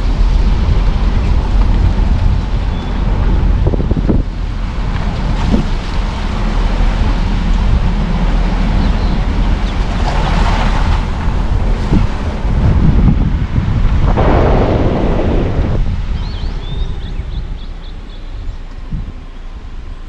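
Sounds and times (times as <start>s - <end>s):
wind noise: 0.0s - 19.3s
car engine and tyres rumbling: 0.0s - 20.0s.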